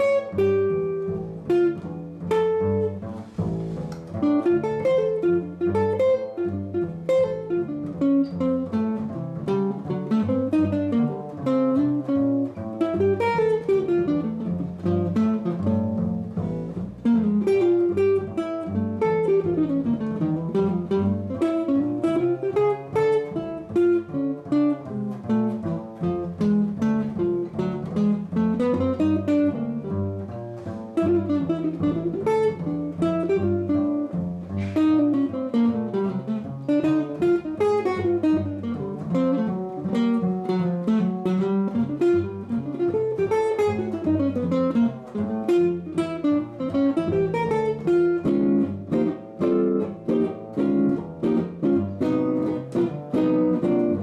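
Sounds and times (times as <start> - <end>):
jazz guitar solo: 0.0 - 54.0
pizzicato upright bass: 0.0 - 54.0.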